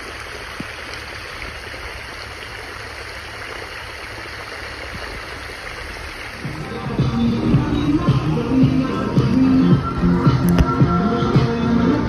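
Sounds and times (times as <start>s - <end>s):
running water from fountains: 0.0s - 12.0s.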